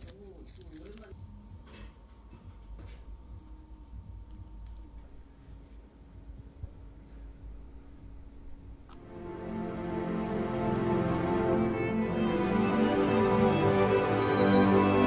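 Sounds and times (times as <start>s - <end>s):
cricket chirping: 0.0s - 12.6s.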